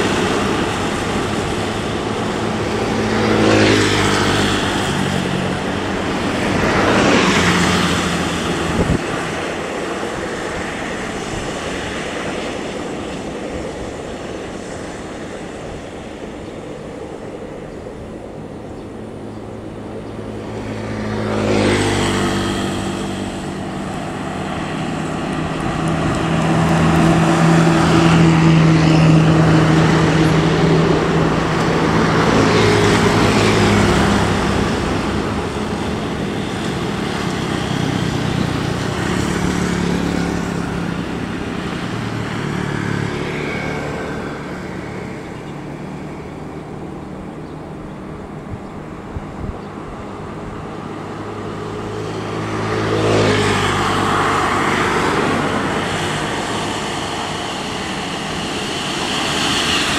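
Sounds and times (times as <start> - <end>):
bus engine drone: 0.0 - 59.9
road traffic passing: 0.0 - 59.9.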